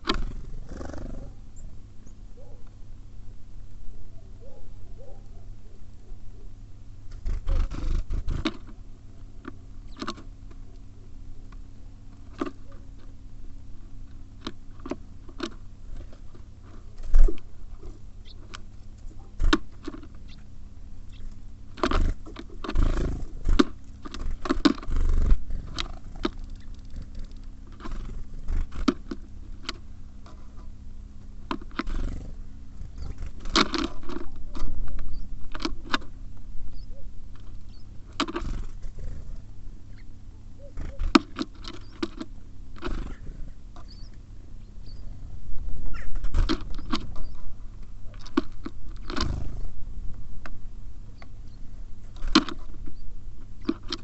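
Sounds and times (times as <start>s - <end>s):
birds pecking and hopping on feeder: 0.0s - 54.0s
faint steady hum: 0.0s - 54.0s.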